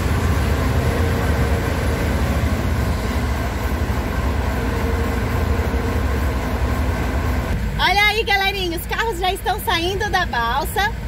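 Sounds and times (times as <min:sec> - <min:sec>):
low ferry engine rumble: 0:00.0 - 0:11.0.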